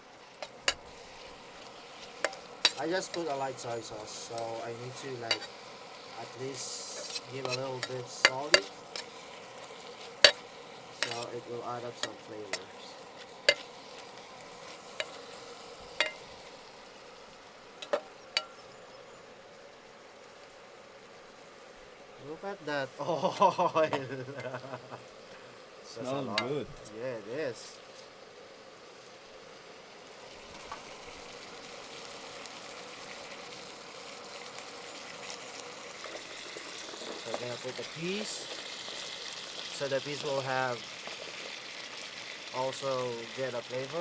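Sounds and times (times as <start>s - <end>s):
stir-fry sizzling in a pan: 0.0s - 44.0s.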